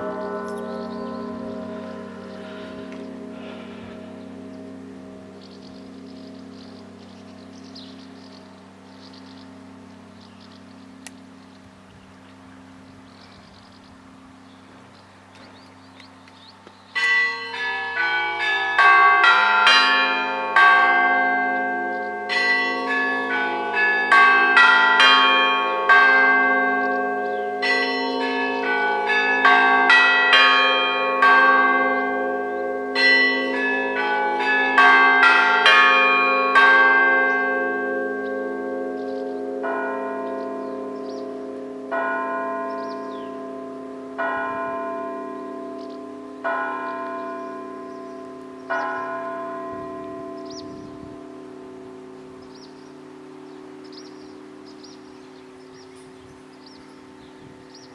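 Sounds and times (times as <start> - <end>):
small church bells ringing quickly: 0.0 - 15.3, 17.0 - 57.9
large bells humming: 0.0 - 57.9.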